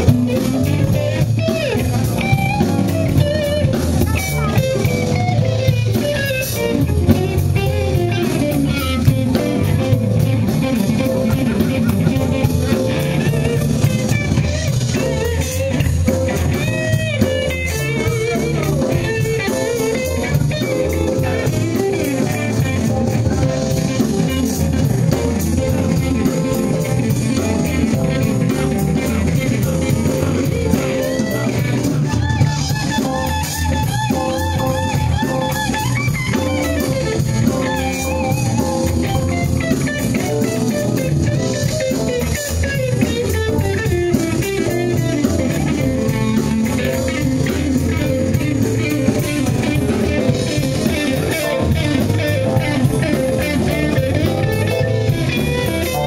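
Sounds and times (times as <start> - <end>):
live band playing instrumental music: 0.0 - 56.0
wavering melody line: 0.0 - 56.0.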